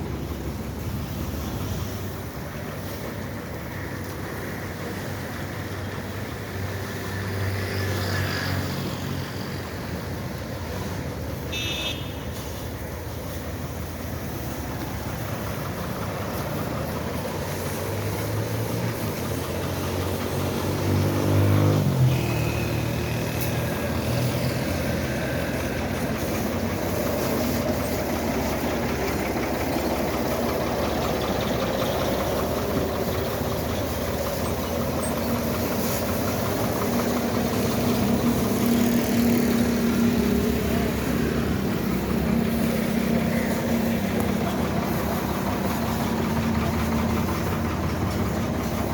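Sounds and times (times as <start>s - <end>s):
tractor diesel engine revving: 0.0s - 11.6s, 12.2s - 48.9s.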